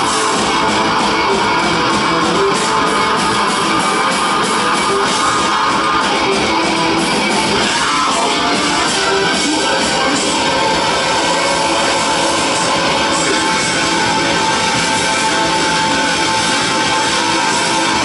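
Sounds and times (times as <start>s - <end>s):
bass guitar: 0.0s - 18.0s
distorted electric guitar: 0.0s - 18.0s
drums: 0.0s - 18.0s
keyboards: 0.0s - 18.0s.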